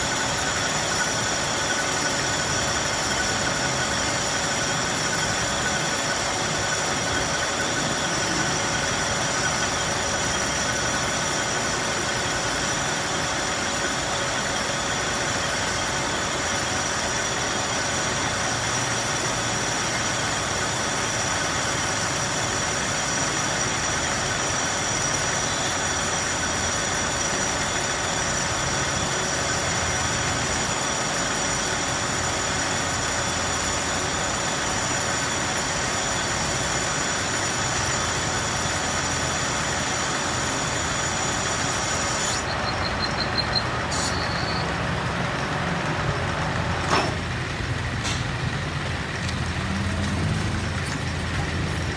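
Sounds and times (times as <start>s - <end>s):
high-pitched gear whine: 0.0s - 51.9s
lathe whirring: 0.0s - 51.9s.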